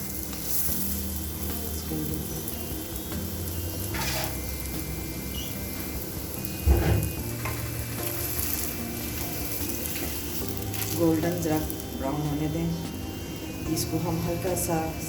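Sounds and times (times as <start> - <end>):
flatbread sizzling in a pan: 0.0 - 15.0.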